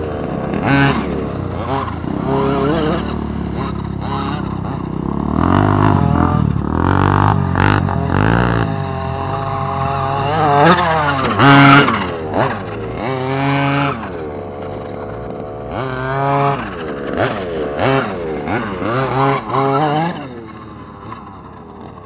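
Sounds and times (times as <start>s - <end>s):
small two-stroke engine revving: 0.0s - 22.0s.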